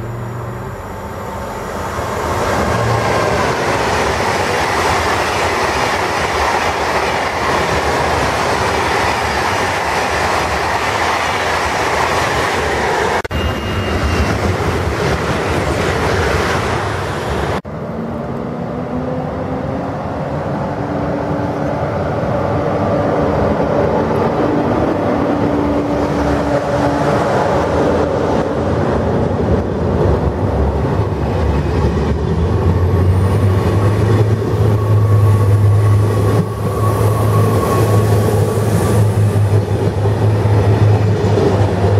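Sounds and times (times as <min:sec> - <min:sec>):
high-speed train rushing past: 0:00.0 - 0:41.9
train wheels rumbling: 0:00.0 - 0:41.9.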